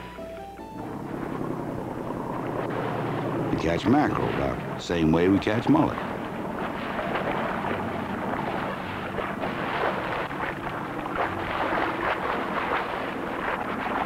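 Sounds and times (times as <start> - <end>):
boat engine humming: 0.0 - 14.0
water splashing: 0.8 - 14.0.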